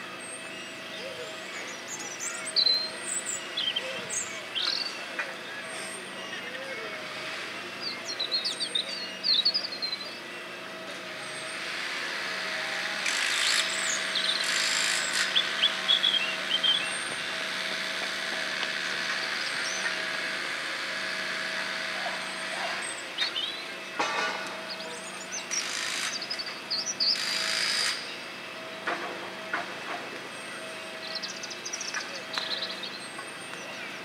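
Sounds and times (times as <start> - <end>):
machinery hum: 0.0 - 34.0
small birds twittering: 0.2 - 10.5, 12.4 - 28.9, 30.3 - 34.0.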